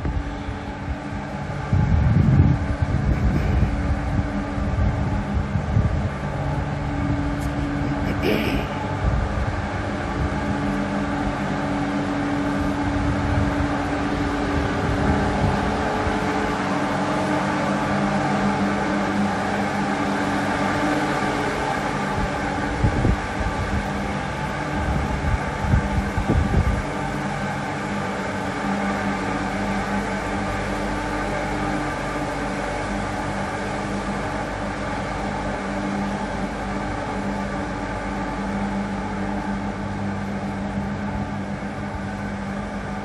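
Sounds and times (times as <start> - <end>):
machine hum: 0.0 - 43.0.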